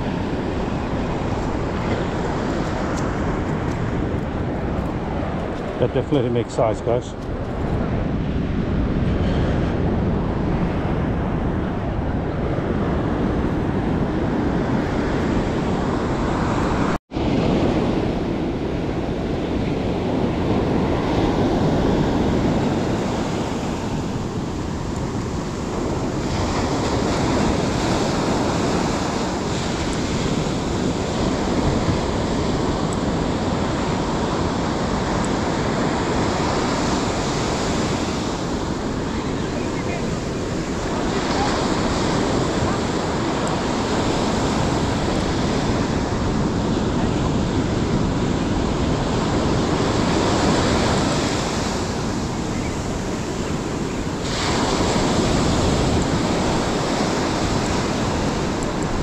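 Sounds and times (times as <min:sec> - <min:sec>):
waves breaking on beach: 0:00.0 - 0:59.0
wind buffeting microphone: 0:00.0 - 0:59.0.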